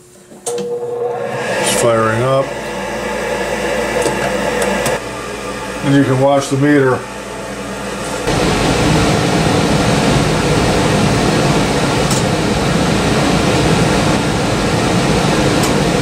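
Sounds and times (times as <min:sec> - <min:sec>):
furnace rushing noise: 0:00.6 - 0:16.0.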